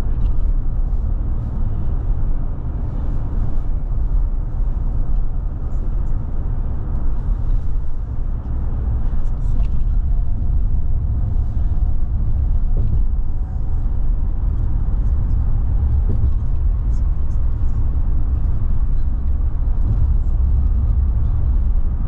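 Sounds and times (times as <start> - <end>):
car interior road rumble: 0.0 - 22.0.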